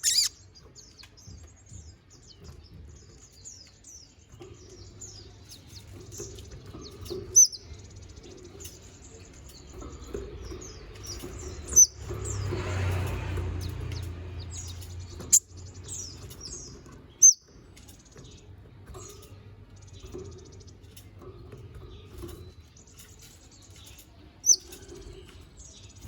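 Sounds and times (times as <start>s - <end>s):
songbird singing chirps and trills: 0.0s - 26.0s.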